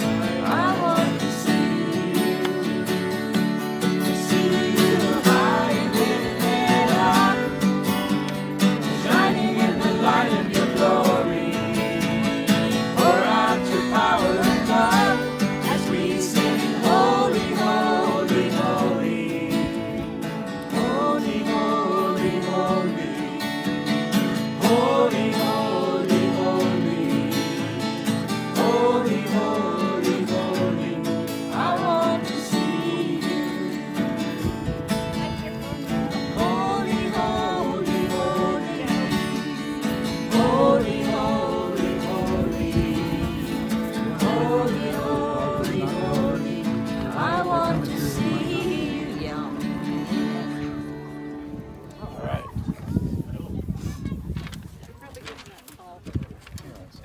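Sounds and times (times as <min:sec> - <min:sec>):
voices singing: 0:00.0 - 0:34.6, 0:35.9 - 0:51.5
acoustic guitars strumming: 0:00.0 - 0:52.0.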